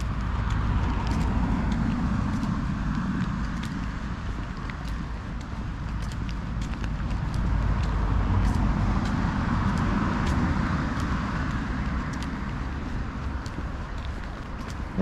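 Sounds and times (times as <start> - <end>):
car passing by: 0.0 - 4.6, 7.2 - 15.0
footsteps on tarmac: 0.0 - 15.0.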